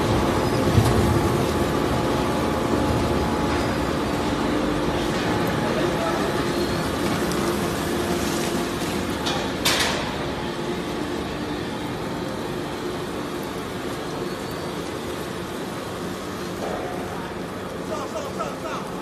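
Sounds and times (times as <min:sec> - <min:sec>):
industrial shredder humming: 0:00.0 - 0:19.0.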